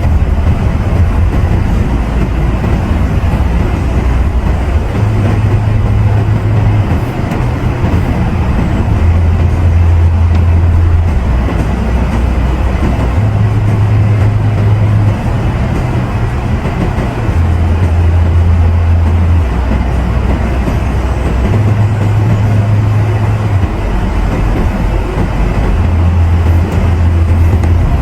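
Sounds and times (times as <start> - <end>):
car engine drone: 0.0 - 28.0
road and tyre noise: 0.0 - 28.0.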